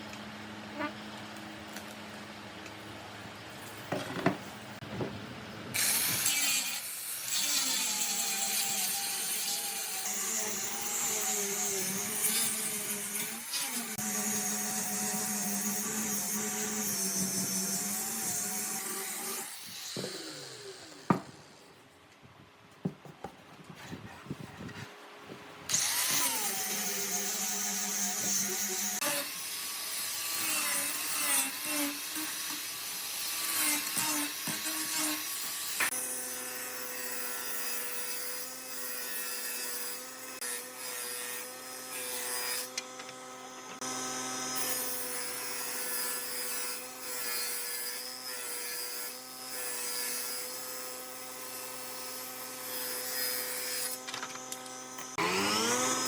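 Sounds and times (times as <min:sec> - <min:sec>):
electric power tool cutting wood: 0:05.7 - 0:21.6, 0:25.7 - 0:56.0.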